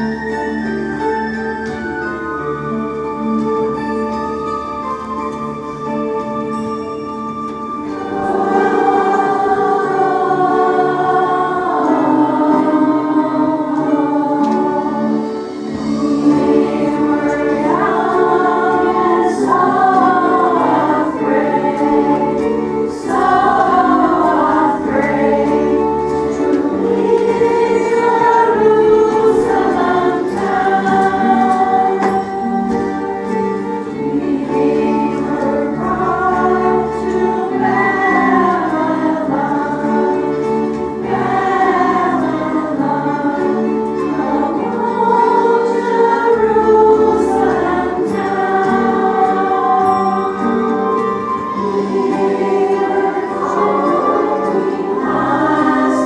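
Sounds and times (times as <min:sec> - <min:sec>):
choir singing in unison: 0:00.0 - 0:04.0, 0:07.6 - 0:56.0
musical accompaniment: 0:00.0 - 0:56.0.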